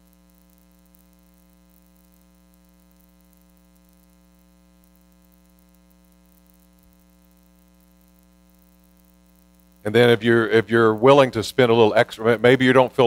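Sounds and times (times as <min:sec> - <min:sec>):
faint electrical hum: 0:00.0 - 0:13.0
low hiss: 0:00.0 - 0:13.0.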